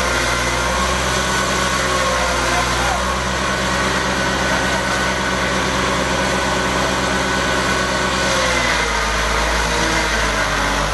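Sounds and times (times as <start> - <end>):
tractor engine running: 0.0 - 10.9.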